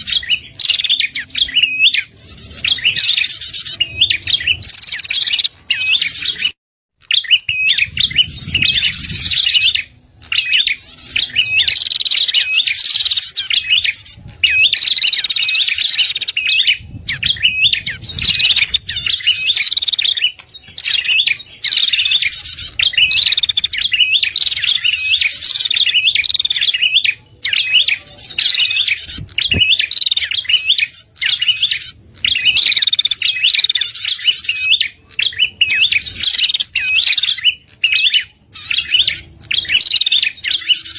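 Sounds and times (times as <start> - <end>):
bird high chirping phrases: 0.0 - 40.9.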